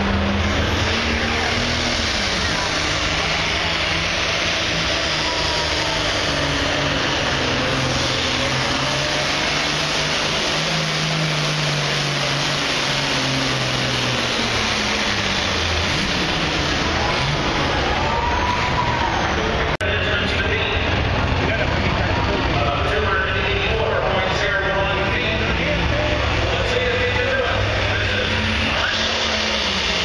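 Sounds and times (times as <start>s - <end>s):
tractor diesel engine at full throttle: 0.0s - 30.0s.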